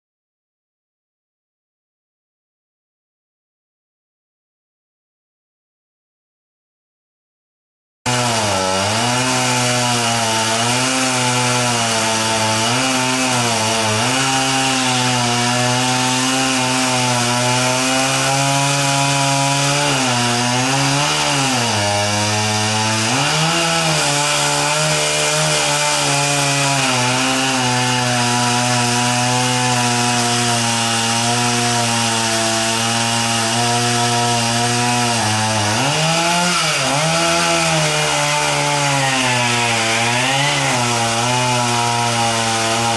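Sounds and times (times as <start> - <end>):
chainsaw cutting wood: 8.1 - 42.9.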